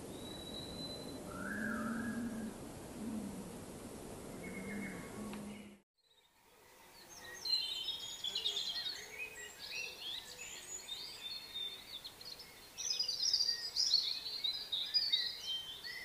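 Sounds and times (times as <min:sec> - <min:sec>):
songbirds twittering: 0:00.0 - 0:03.4, 0:04.2 - 0:16.0.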